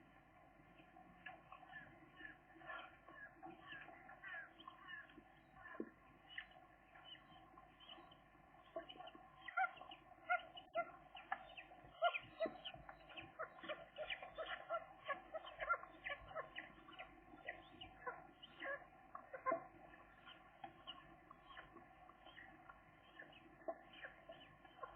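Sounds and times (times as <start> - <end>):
gull chicks peeping: 1.2 - 24.9.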